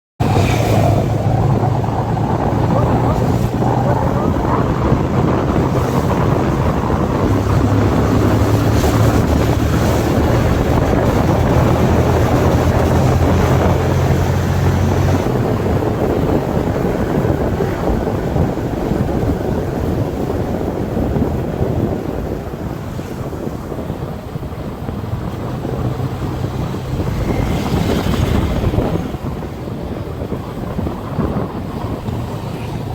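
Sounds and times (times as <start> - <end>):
motorcycle engine droning: 0.2 - 32.9
wind rush on microphone: 0.2 - 32.9.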